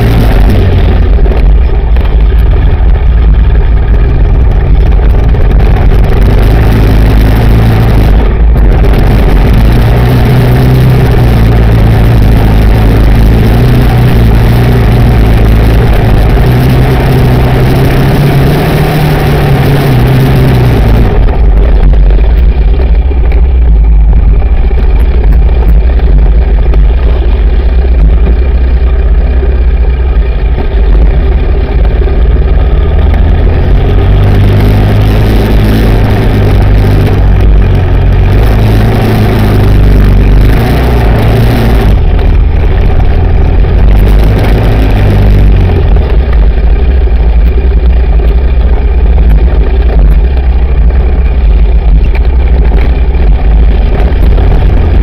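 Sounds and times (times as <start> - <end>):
quad engine revving: 0.0 - 55.0
wind noise on microphone: 0.0 - 55.0.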